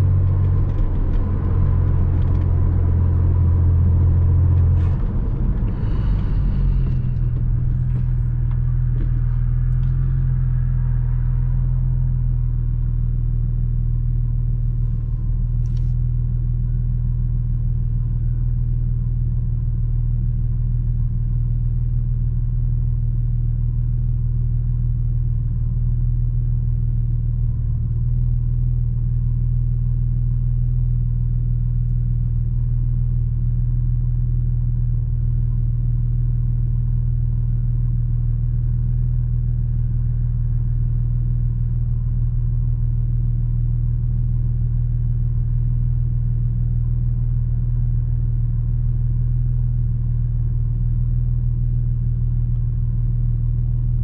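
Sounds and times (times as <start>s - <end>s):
car engine drone: 0.0s - 54.0s
road rumble: 0.0s - 54.0s.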